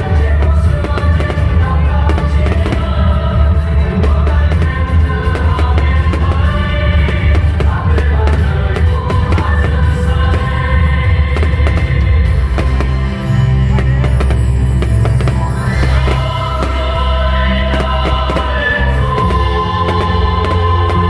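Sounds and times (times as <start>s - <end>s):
fireworks cracking and banging: 0.0s - 21.0s
loud music with heavy bass: 0.0s - 21.0s.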